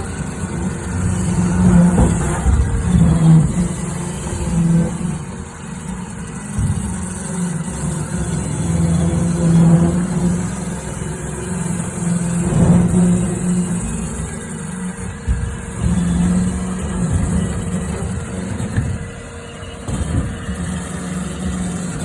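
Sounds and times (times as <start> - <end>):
scraping in metal ductwork: 0.0 - 22.0.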